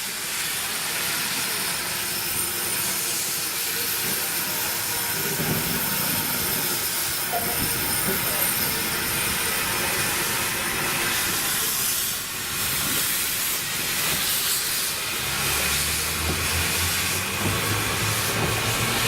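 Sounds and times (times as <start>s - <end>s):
steam locomotive hissing steam: 0.0s - 19.0s.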